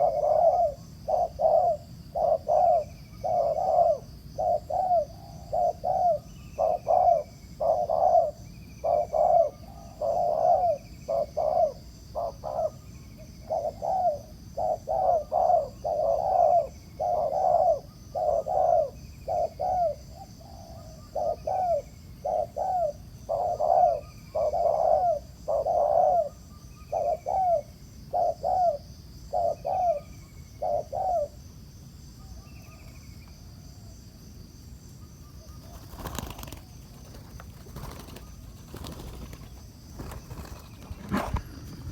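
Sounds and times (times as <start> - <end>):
doves cooing: 0.0 - 31.4, 35.4 - 41.9.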